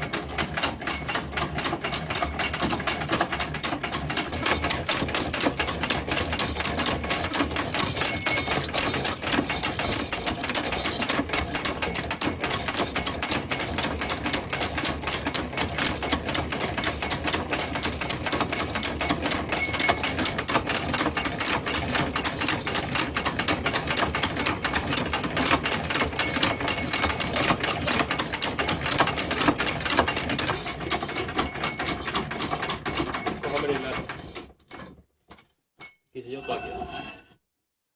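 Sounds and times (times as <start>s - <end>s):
hand-cranked drill clattering: 0.0s - 36.0s.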